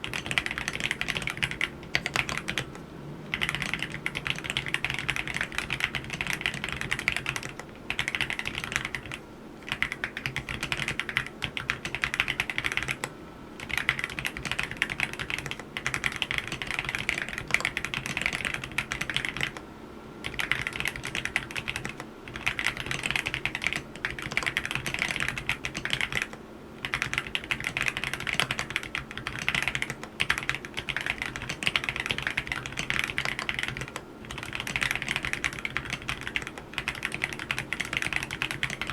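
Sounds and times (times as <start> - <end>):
mechanical keyboard typing: 0.0 - 19.6, 20.2 - 38.9.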